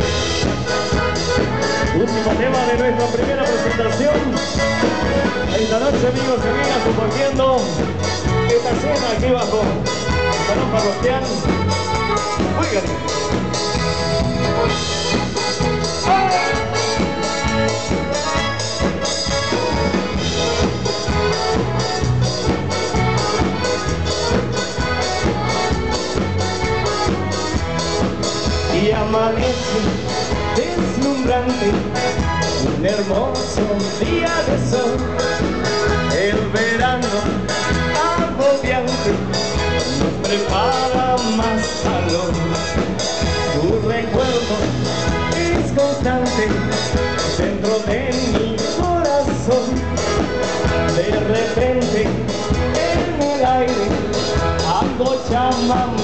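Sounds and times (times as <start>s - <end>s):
live dance band music: 0.0s - 56.0s.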